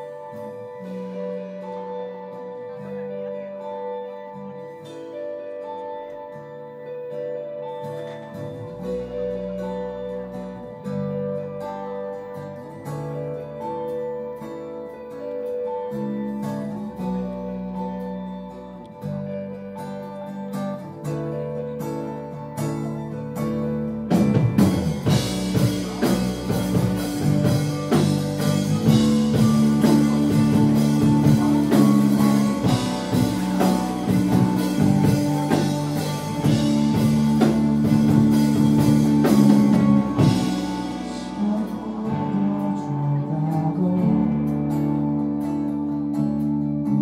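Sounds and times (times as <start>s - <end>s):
electric bass: 0.0s - 47.0s
electric guitar: 0.0s - 47.0s
live band playing: 0.0s - 47.0s.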